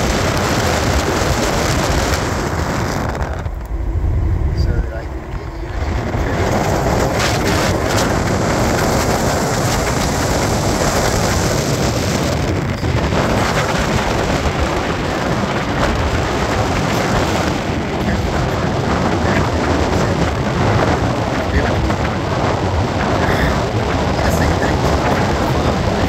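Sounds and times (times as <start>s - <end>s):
vehicle road noise on dirt road: 0.0s - 26.0s
wind over microphone: 0.0s - 26.0s.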